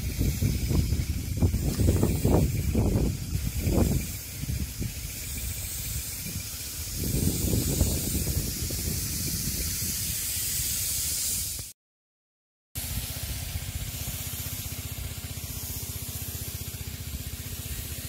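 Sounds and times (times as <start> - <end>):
low pump rumble: 0.0 - 9.8, 12.8 - 18.0
spray wand hissing: 0.0 - 11.8, 12.8 - 18.0.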